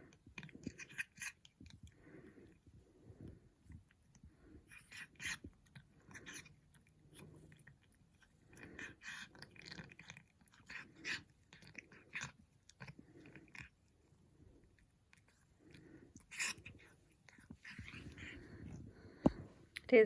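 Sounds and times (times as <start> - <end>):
cat chewing crunchy treats: 0.0 - 19.9.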